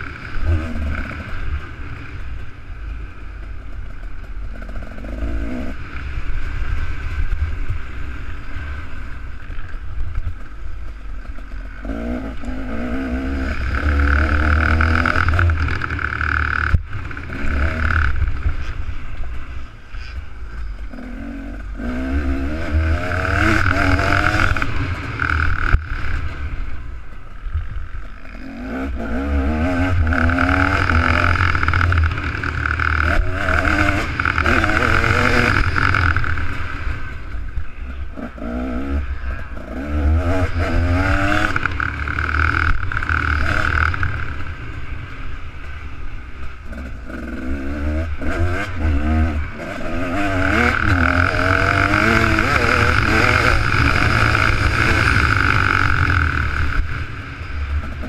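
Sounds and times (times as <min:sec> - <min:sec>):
motocross bike engine revving: 0:00.0 - 0:26.8, 0:27.4 - 0:58.0.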